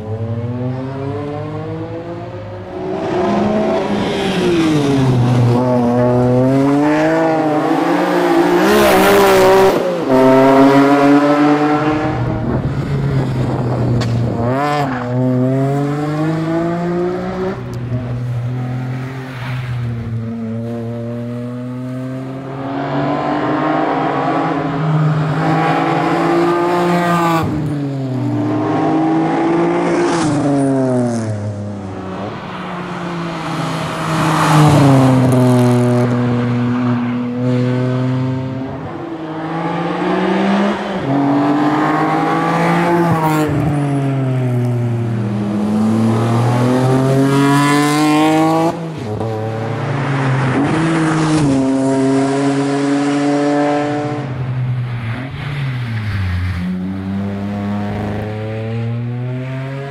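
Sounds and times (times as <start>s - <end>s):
car engine revving through gears: 0.0s - 18.1s, 20.2s - 27.7s, 28.3s - 31.6s, 33.3s - 43.7s, 44.4s - 54.4s.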